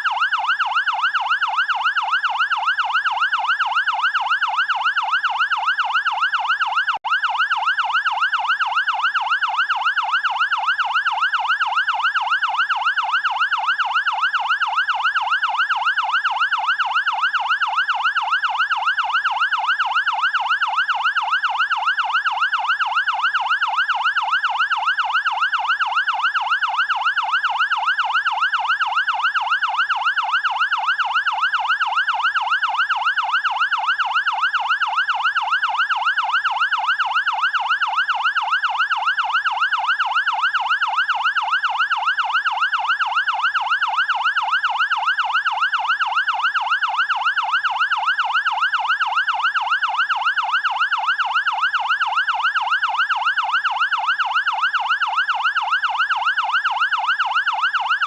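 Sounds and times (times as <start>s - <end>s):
fire engine siren yelping: 0.0s - 58.0s.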